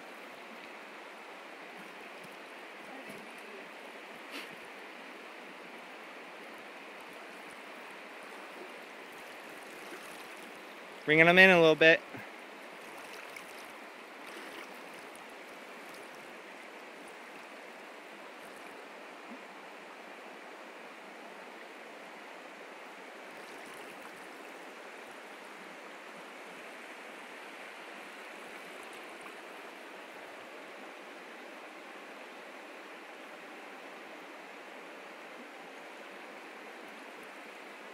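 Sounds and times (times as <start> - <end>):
river water flowing: 0.0 - 37.9.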